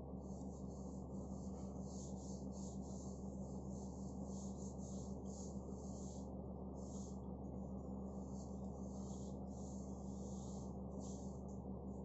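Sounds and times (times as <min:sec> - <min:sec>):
steady low hum: 0:00.0 - 0:12.0
pencil scratching on paper: 0:00.3 - 0:07.2, 0:08.1 - 0:11.4.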